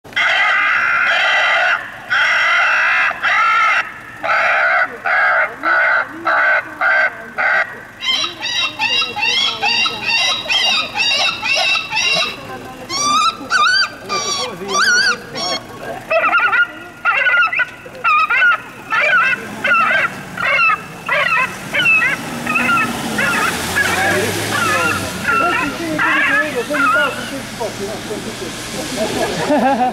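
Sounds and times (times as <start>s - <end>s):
recorded bird distress calls on loudspeaker: 0.1s - 27.5s.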